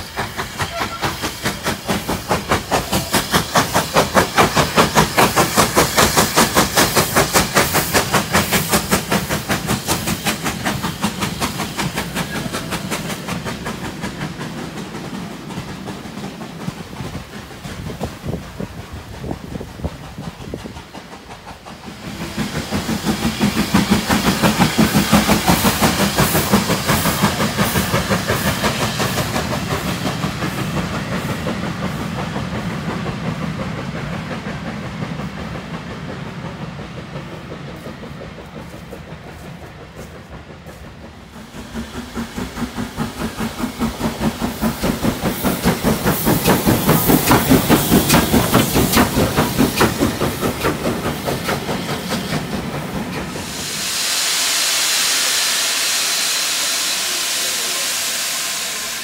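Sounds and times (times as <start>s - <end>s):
steam hissing: 0.0s - 59.0s
steam locomotive exhaust beats: 0.0s - 59.0s
train wheels clattering: 0.0s - 59.0s.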